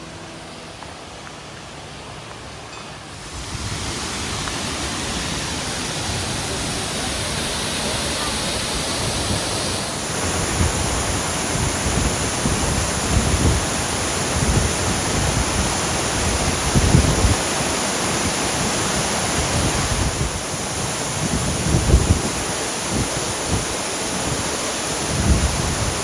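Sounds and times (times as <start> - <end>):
waterfall and creek rushing: 0.0 - 26.0
wind buffeting microphone: 3.1 - 26.0.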